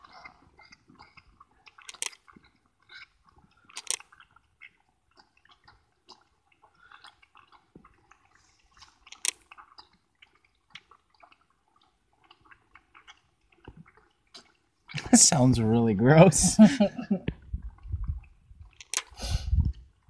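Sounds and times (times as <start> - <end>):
calf slurping from bottle: 0.0 - 15.7, 17.2 - 20.0.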